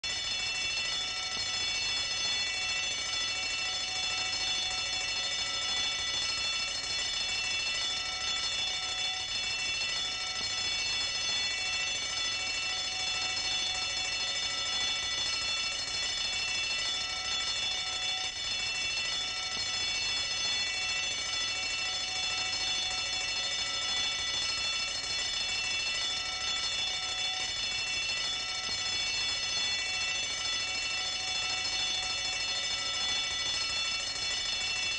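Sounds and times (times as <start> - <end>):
bell ringing continuously: 0.1 - 34.9.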